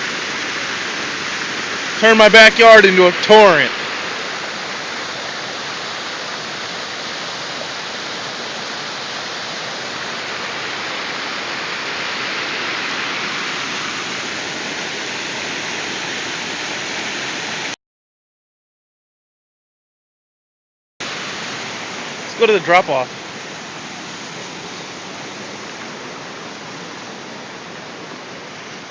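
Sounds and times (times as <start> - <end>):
torrent of water rushing: 0.0 - 17.8, 21.0 - 28.9.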